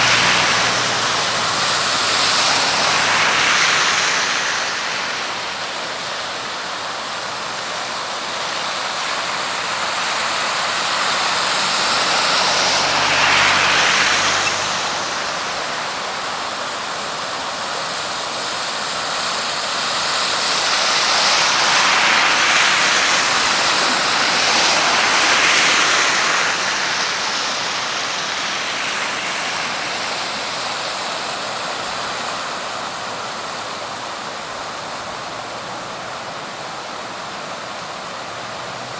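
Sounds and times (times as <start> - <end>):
floodwater rushing: 0.0 - 38.9.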